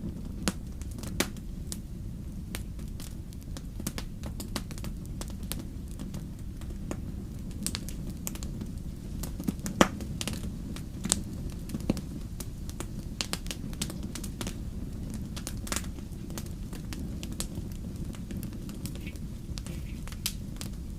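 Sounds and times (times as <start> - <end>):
fire crackling: 0.0 - 20.9.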